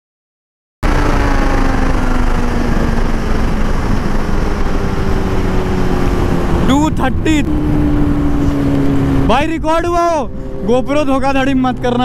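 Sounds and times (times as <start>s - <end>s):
motorcycle engine at high speed: 0.8s - 12.0s
wind rush on microphone: 0.9s - 12.0s.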